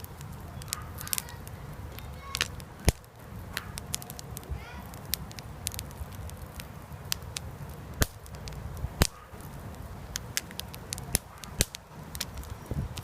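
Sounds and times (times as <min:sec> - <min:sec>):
popcorn popping: 0:00.0 - 0:13.0.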